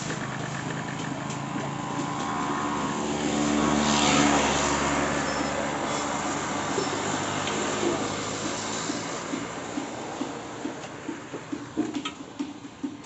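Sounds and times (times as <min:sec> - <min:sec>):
rough grinding noise: 0:00.0 - 0:11.0.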